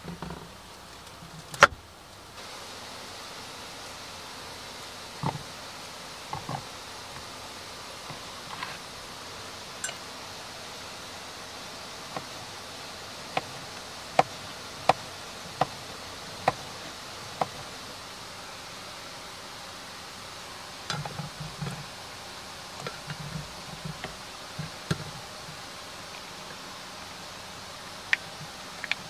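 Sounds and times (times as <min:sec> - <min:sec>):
faint hiss: 0:00.0 - 0:29.0.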